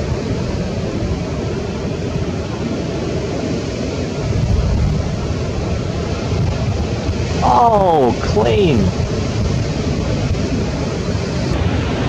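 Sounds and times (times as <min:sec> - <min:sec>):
ocean surf breaking on a reef: 0:00.0 - 0:12.0.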